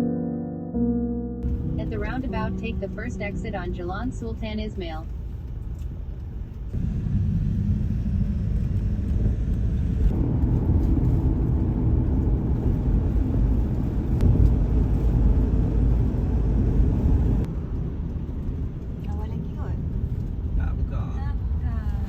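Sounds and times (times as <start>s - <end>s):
car cabin road rumble: 1.4s - 22.0s.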